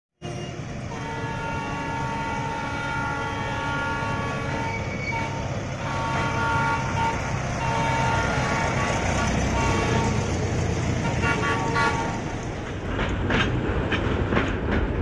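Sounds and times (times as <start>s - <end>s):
miniature train engine rumble: 0.3s - 15.0s.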